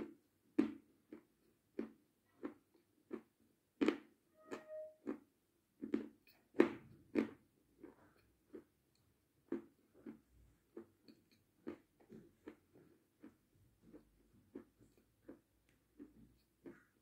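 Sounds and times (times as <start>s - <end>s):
person chewing crunchy sweet: 0.0s - 4.2s, 5.0s - 17.0s.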